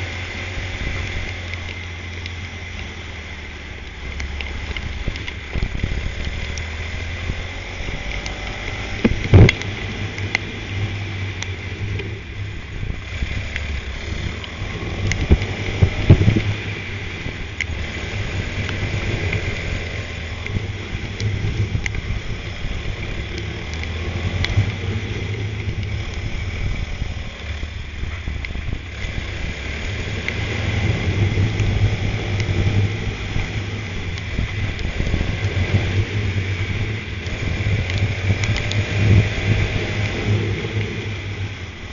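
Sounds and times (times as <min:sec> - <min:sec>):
kart engine running: 0:00.0 - 0:41.9
wind noise on microphone: 0:03.2 - 0:41.9.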